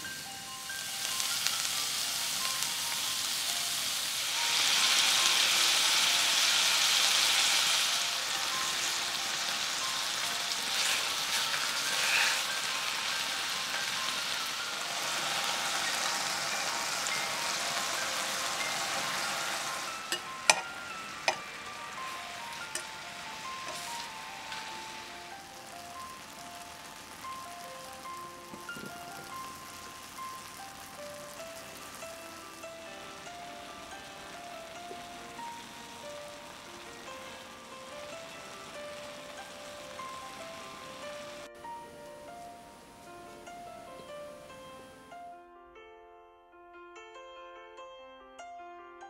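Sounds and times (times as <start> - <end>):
food sizzling in frying pan: 0.0 - 45.0.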